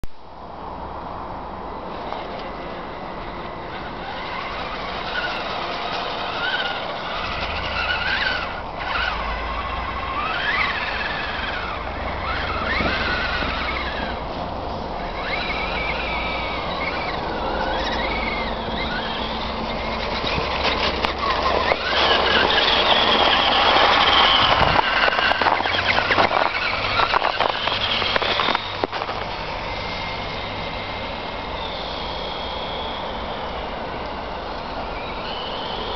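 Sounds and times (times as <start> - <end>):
electric motor whining: 1.9 - 35.9
tires hissing on snow: 2.8 - 35.9.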